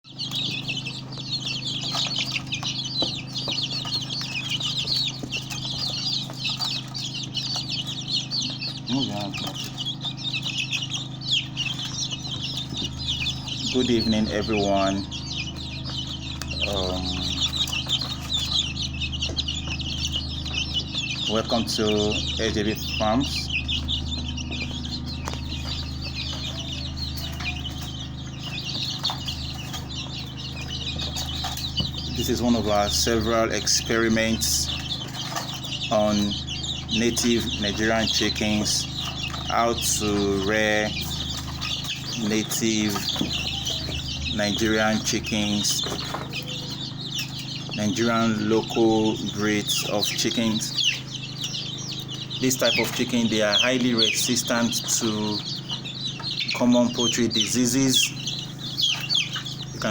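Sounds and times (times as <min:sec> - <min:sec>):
chicks peeping: 0:00.0 - 0:59.9
steady low hum: 0:00.0 - 0:59.9.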